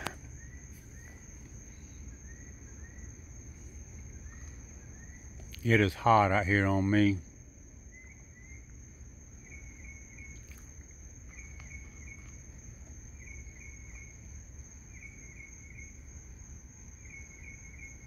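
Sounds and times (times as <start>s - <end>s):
insect chirps: 0.0s - 18.0s
insects droning: 0.0s - 18.0s
low background rumble: 0.0s - 18.0s.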